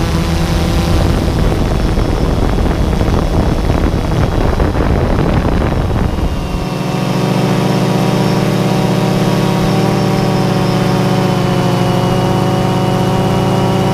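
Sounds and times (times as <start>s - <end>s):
drone propellers humming: 0.0s - 13.9s
wind rush: 0.0s - 13.9s.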